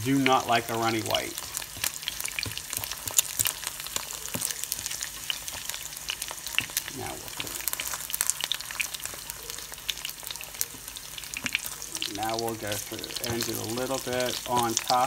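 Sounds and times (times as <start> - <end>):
egg frying in sizzling oil: 0.0 - 15.0.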